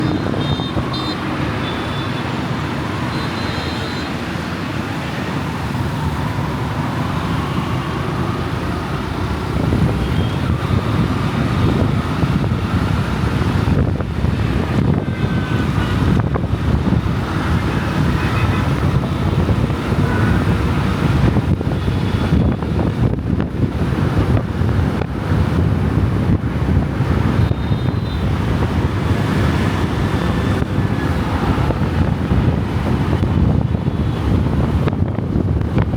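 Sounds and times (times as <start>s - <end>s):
road traffic noise: 0.0s - 35.9s.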